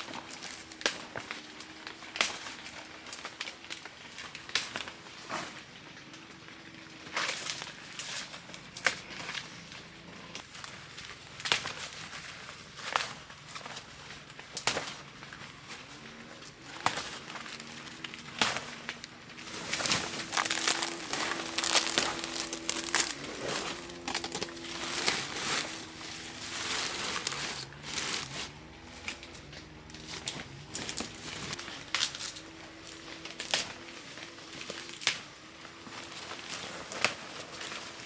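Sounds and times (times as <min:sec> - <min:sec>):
crackling and crinkling: 0:00.0 - 0:38.0.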